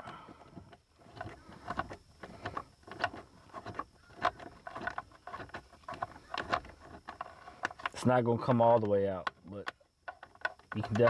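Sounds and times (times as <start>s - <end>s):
socket clicking and scraping: 1.0s - 8.0s, 8.8s - 11.0s.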